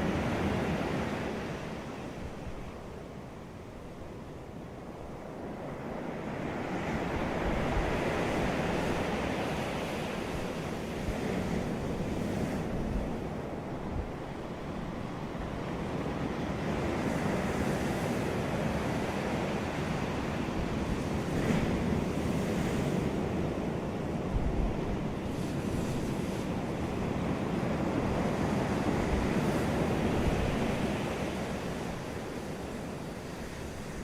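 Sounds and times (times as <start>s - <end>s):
ocean waves breaking on beach: 0.0s - 34.0s.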